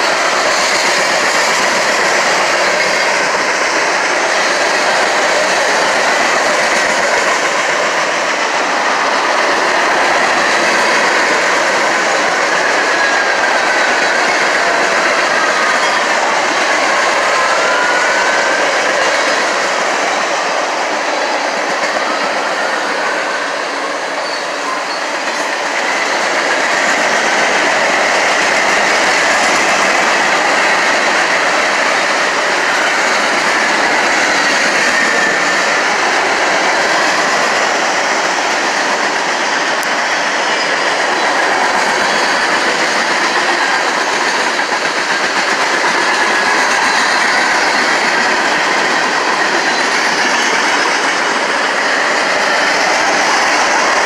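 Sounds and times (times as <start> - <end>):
train rail noise: 0.0 - 54.0.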